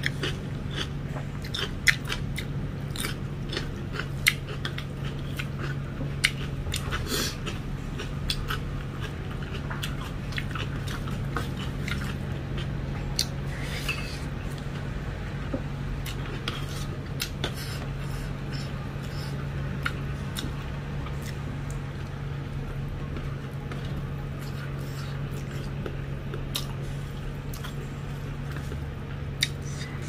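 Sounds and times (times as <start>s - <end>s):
chewing: 0.0s - 14.8s, 16.0s - 30.0s
steady low hum: 0.0s - 30.0s.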